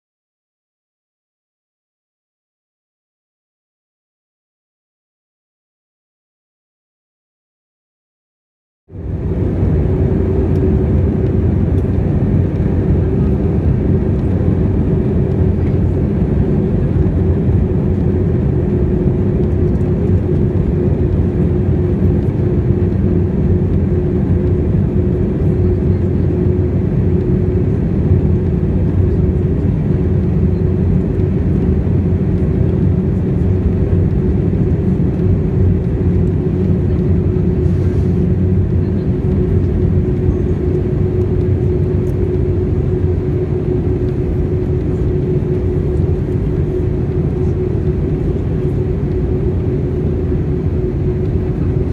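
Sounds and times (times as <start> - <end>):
low rumble of airflow and engines: 8.9 - 51.9
steady humming tone: 9.0 - 51.9.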